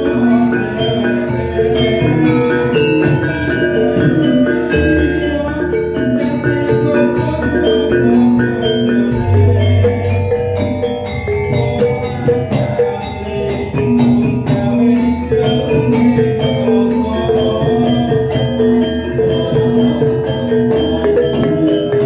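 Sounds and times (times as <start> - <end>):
other instruments playing along: 0.0 - 22.0.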